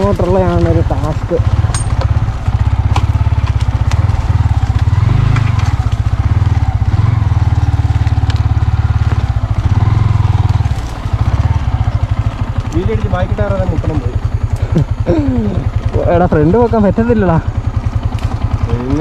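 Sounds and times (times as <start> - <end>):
stones clicking under tyres: 0.0 - 15.0, 15.7 - 19.0
motorcycle engine running: 0.0 - 19.0.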